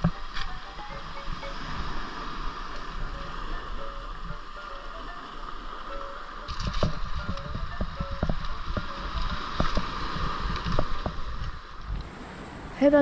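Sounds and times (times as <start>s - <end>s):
water sloshing around waders: 0.0s - 12.4s.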